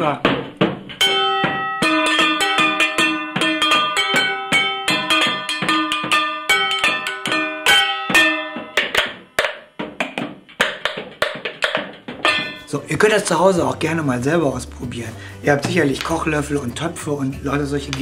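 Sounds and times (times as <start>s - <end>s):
wooden spoons striking pots: 0.0s - 13.1s, 15.5s - 18.0s.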